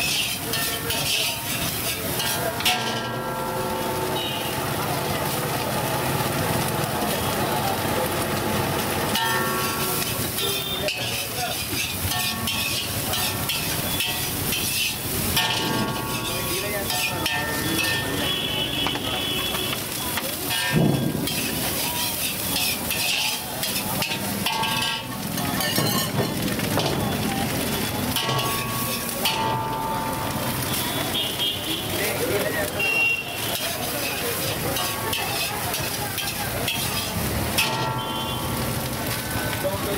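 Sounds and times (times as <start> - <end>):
metal ladle scraping a wok: 0.0 - 4.4, 8.8 - 19.0, 19.6 - 30.9, 31.9 - 39.2
rice sizzling in a wok: 0.0 - 39.9.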